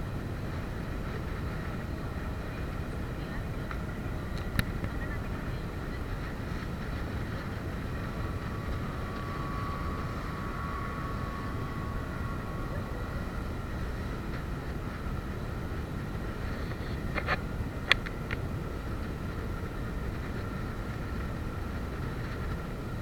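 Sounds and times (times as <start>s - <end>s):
boat engine drone: 0.0s - 23.0s
faint steady whine: 0.0s - 23.0s
wind rushing on microphone: 0.0s - 23.0s.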